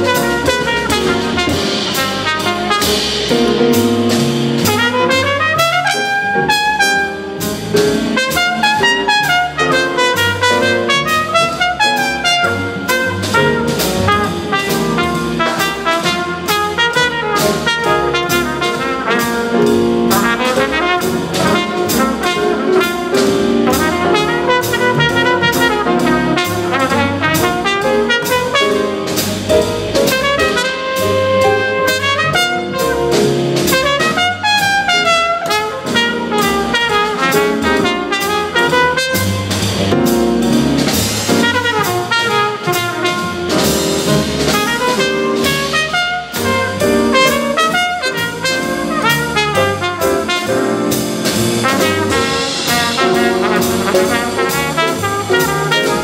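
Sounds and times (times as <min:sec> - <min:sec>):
trumpet playing quick runs: 0:00.0 - 0:03.3, 0:04.1 - 0:07.5, 0:08.1 - 0:39.8, 0:40.9 - 0:56.0
drums with cymbal strokes: 0:00.0 - 0:56.0
piano: 0:00.0 - 0:56.0
walking double bass: 0:00.0 - 0:56.0.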